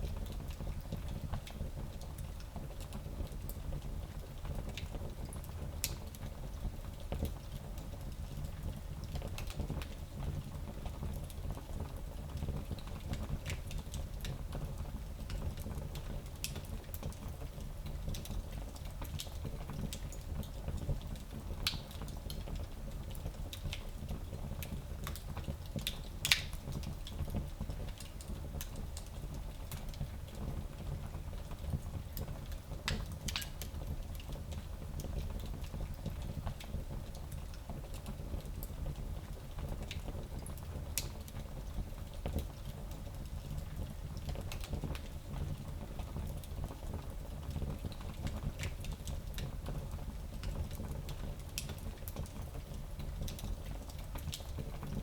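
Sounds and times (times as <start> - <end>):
fire crackles and pops: 0.0 - 55.0.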